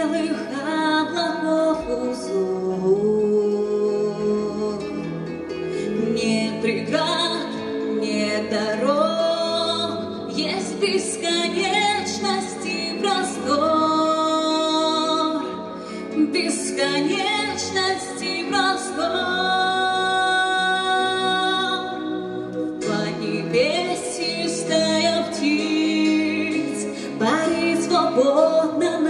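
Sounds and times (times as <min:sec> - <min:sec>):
woman singing into a microphone: 0:00.0 - 0:29.0.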